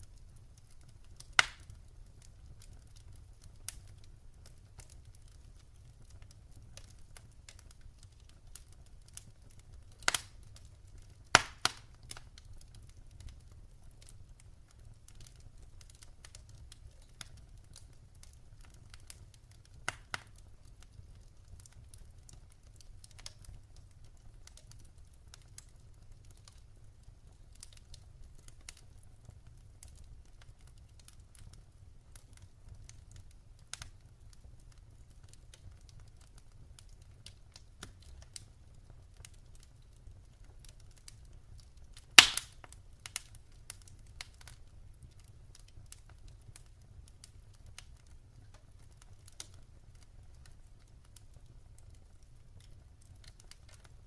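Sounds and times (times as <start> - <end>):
firewood crackling in fireplace: 0.0 - 54.0.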